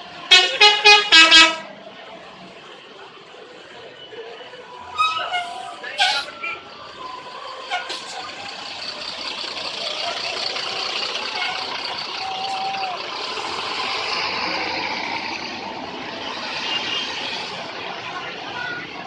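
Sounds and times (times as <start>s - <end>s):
heavy vehicle engine: 0.0s - 19.0s
tyres on road: 0.0s - 19.0s
faint voices: 1.6s - 19.0s.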